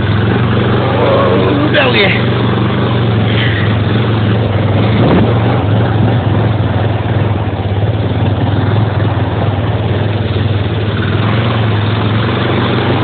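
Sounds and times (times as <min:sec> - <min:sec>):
atv engine running: 0:00.0 - 0:13.0
water rushing: 0:00.0 - 0:13.0.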